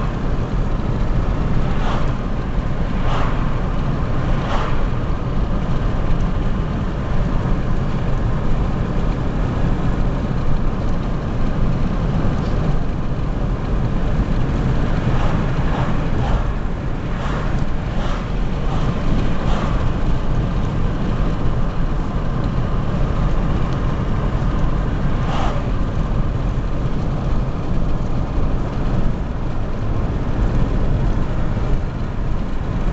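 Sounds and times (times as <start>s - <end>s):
car engine and road noise: 0.0s - 32.9s.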